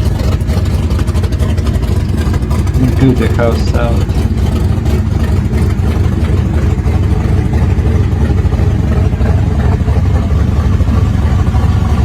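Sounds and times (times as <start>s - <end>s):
loud car engine open exhaust: 0.0s - 12.0s.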